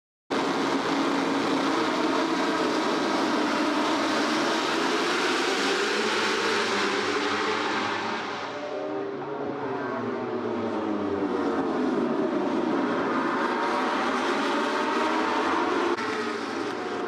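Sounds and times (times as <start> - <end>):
race motorcycles revving: 0.3 - 17.0.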